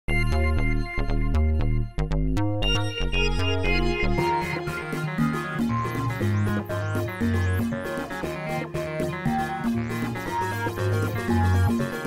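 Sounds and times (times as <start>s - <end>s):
synthesizer music with steady beat: 0.1s - 12.0s.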